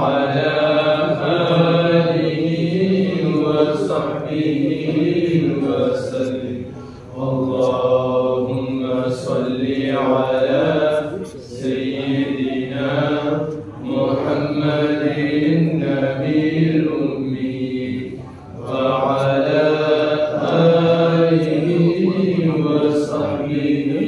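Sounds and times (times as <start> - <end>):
men chanting into microphones: 0.0 - 6.6, 7.2 - 18.0, 18.6 - 24.0.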